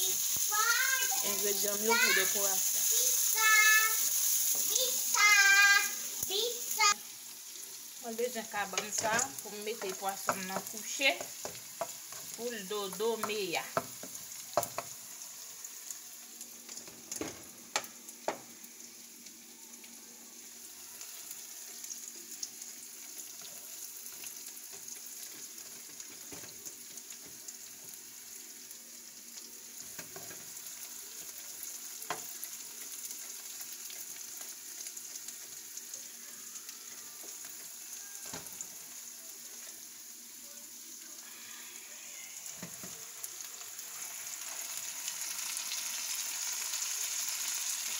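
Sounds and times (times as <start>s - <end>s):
vegetables sizzling in a frying pan: 0.0s - 47.9s.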